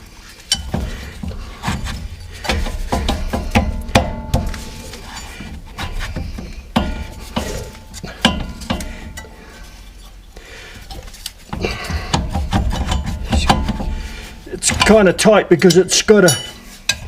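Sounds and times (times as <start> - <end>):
metallic clinks and knocks: 0.4 - 9.4, 10.8 - 17.0.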